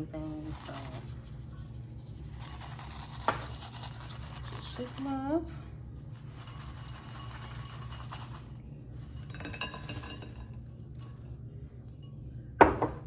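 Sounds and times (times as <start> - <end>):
fries rattling in a bowl: 0.0 - 11.4
low hum: 0.0 - 13.0.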